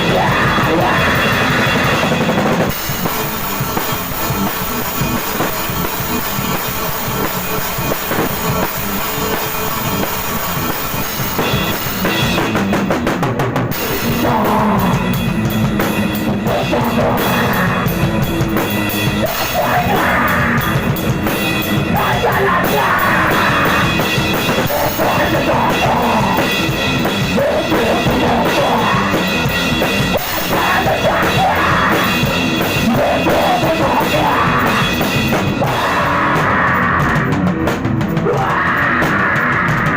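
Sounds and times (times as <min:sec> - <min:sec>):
fast dense drumming: 0:00.0 - 0:39.9
punk metal band playing: 0:00.0 - 0:39.9.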